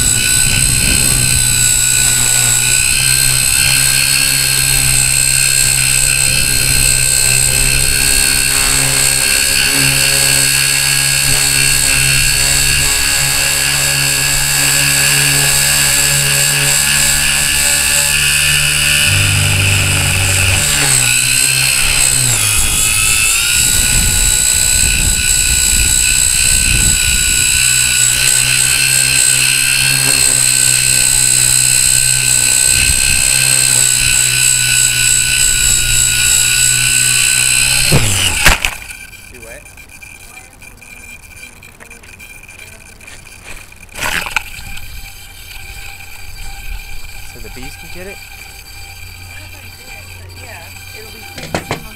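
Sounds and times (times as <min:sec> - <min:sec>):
electric motor high whine: 0:00.0 - 0:51.9
low rotor hum: 0:00.0 - 0:51.9.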